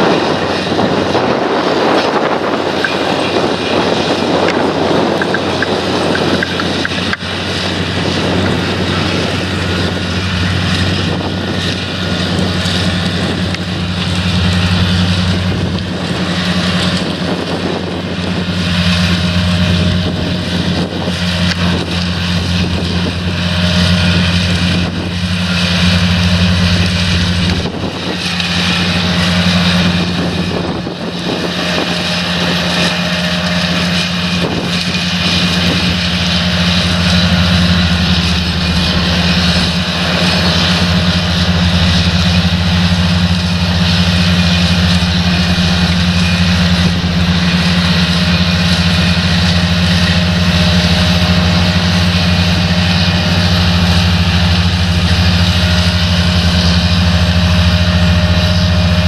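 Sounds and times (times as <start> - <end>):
diesel engine droning: 0.0 - 59.0
lifting gear running: 0.0 - 59.0.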